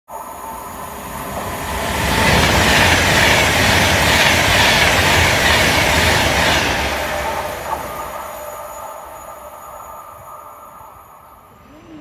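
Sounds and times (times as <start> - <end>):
express train rushing past: 0.1 - 12.0.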